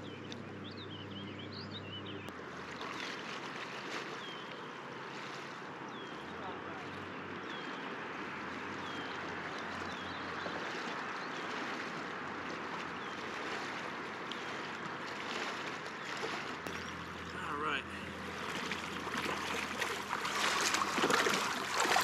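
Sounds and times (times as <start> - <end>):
river water running over stones: 2.3 - 6.4, 7.0 - 22.0.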